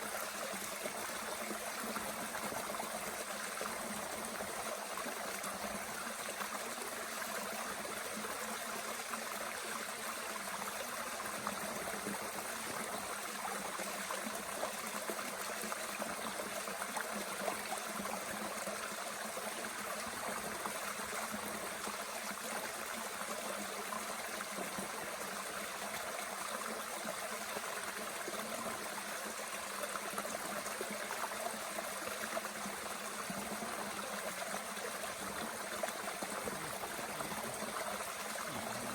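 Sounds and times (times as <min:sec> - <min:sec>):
mountain stream running: 0:00.0 - 0:38.9.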